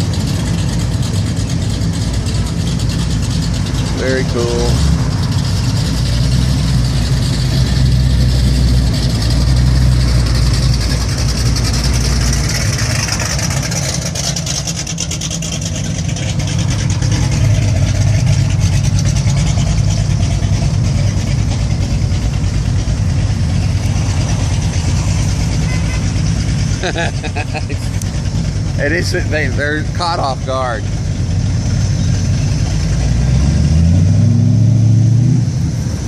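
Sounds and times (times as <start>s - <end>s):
car engines rumbling: 0.0s - 36.0s.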